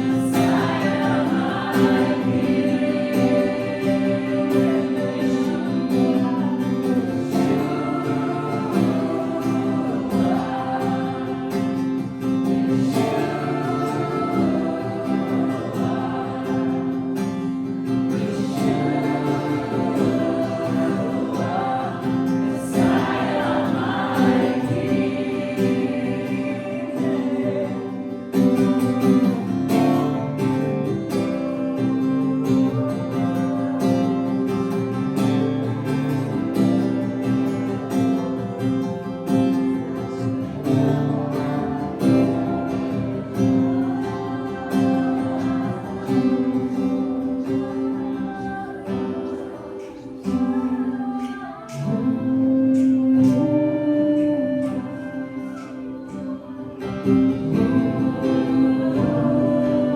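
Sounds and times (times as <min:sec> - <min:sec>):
acoustic guitar strumming: 0:00.0 - 0:59.9
person singing: 0:00.0 - 0:59.9.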